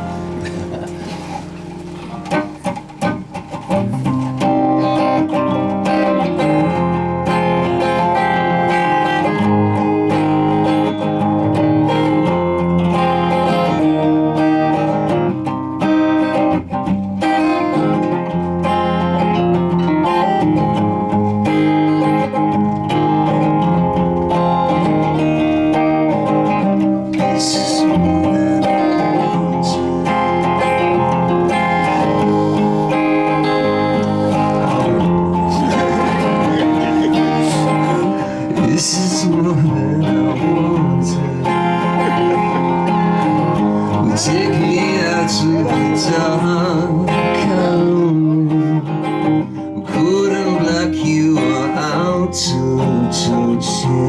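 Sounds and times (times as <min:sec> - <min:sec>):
live rock music: 0:00.0 - 0:54.0
strummed guitar chords: 0:00.0 - 0:54.0.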